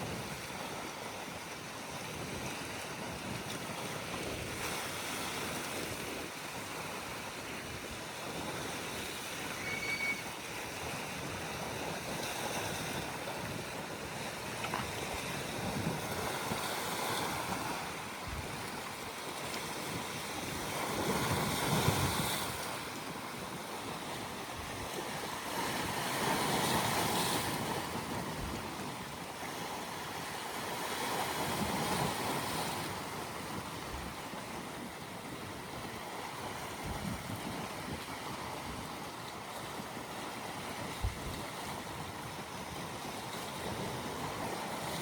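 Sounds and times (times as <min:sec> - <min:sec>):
sea waves washing in: 0:00.0 - 0:45.0.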